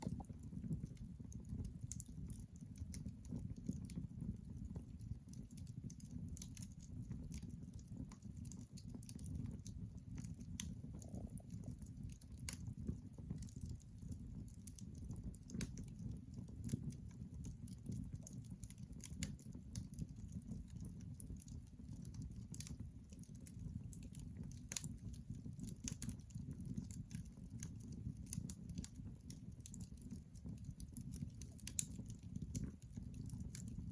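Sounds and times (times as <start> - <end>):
low rumble of flames: 0.0 - 33.9
wood fire crackling and popping: 0.0 - 33.9.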